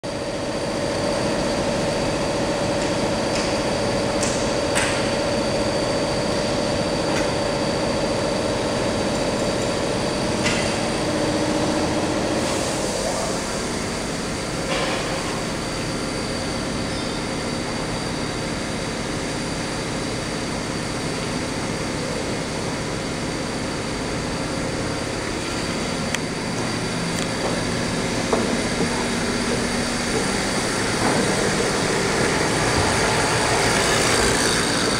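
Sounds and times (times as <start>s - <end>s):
industrial machinery humming: 0.0s - 34.9s.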